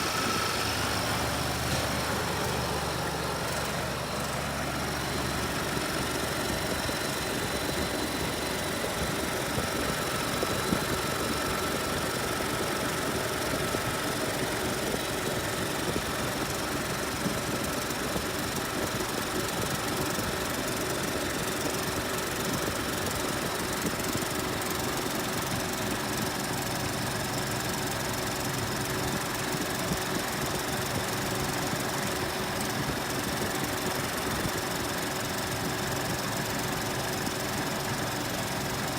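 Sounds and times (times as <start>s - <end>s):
engine running with fast ticking: 0.0s - 38.9s.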